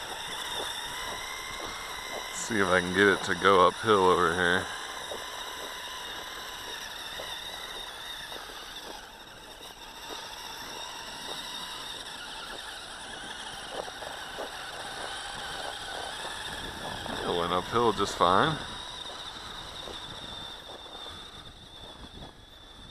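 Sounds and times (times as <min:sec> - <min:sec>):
faint ticks from track: 0:00.0 - 0:22.9
small electric motor whining: 0:00.0 - 0:22.9.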